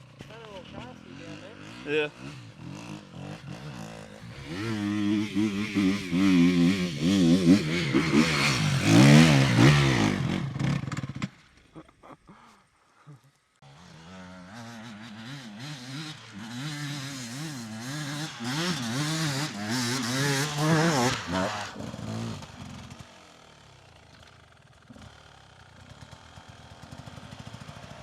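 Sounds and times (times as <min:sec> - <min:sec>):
dirt bike engine revving: 0:00.0 - 0:11.5, 0:13.6 - 0:28.0.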